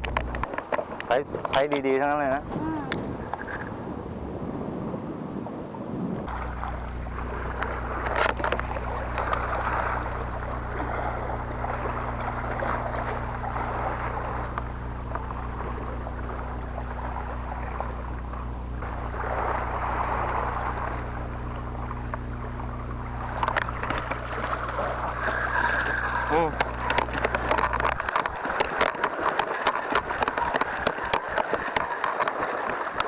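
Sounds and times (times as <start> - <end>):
boat engine running: 0.0 - 33.0
wind and water rushing: 0.0 - 33.0.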